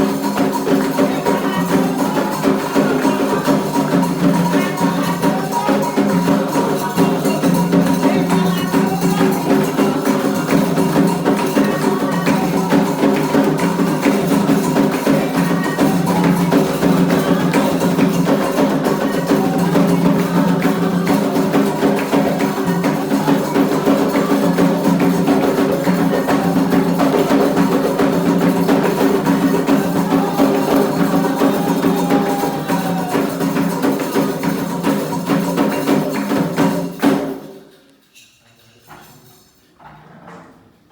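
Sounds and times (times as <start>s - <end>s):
drums playing: 0.0s - 37.5s
struck wood-block or bell rhythm: 0.0s - 37.8s.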